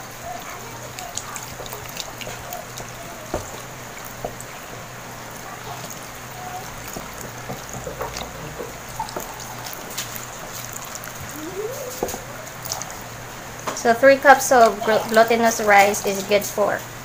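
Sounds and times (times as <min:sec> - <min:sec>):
water pouring into a pot: 0:00.0 - 0:13.6.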